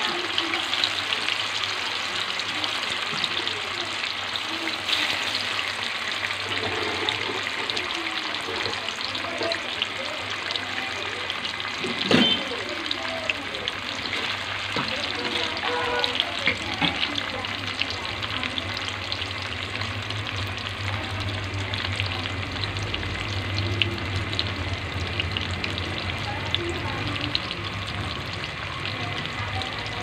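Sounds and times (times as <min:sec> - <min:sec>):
tofu sizzling and popping in oil: 0:00.0 - 0:30.0.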